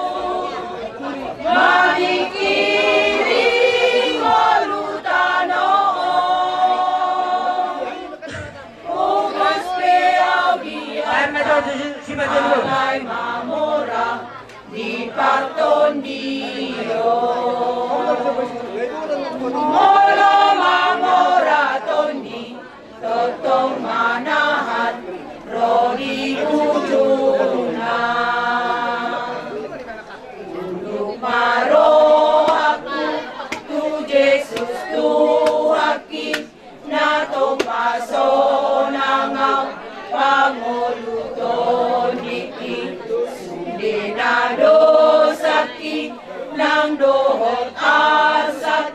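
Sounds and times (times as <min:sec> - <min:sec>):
women singing together: 0:00.0 - 0:48.9.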